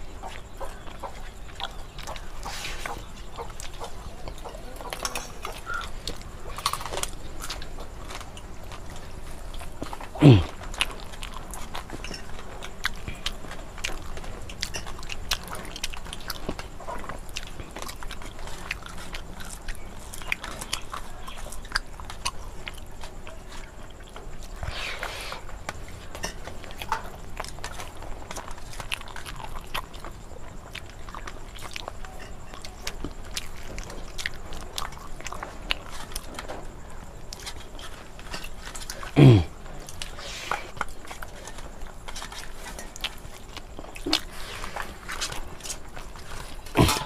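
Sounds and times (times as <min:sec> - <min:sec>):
chewing: 0:00.0 - 0:47.0.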